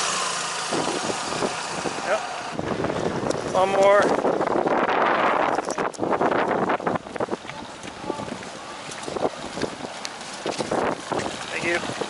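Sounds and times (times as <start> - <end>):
harbour ambience: 0.0 - 12.0
wind buffeting microphone: 0.0 - 12.0.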